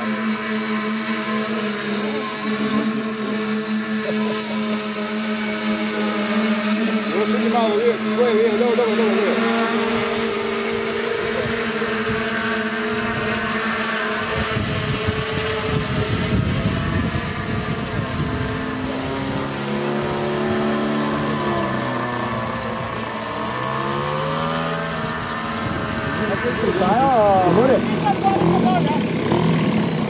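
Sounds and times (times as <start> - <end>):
drone propellers buzzing whine: 0.0 - 30.0.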